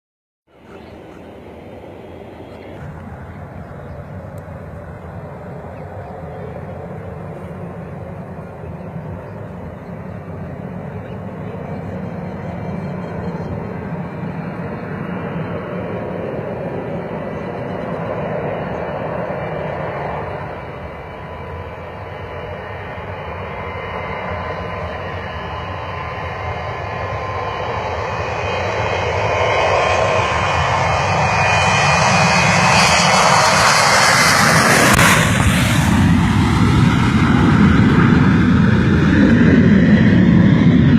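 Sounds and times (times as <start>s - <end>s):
jet engines roaring: 0.5s - 40.9s.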